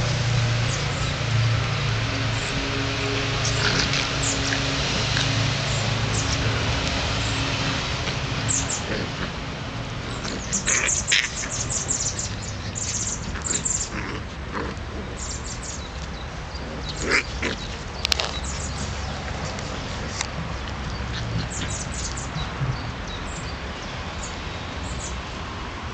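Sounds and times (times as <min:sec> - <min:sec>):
puppies grunting growling and yipping: 0:00.0 - 0:23.2.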